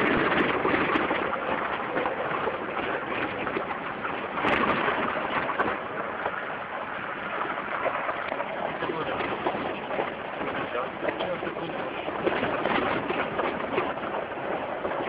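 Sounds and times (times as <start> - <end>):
crackle and rattle over stones: 0.0 - 15.0.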